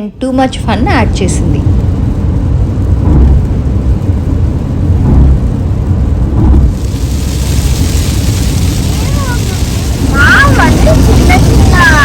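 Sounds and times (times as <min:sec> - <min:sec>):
wind and road noise: 0:00.3 - 0:12.0
steady hiss: 0:00.7 - 0:12.0.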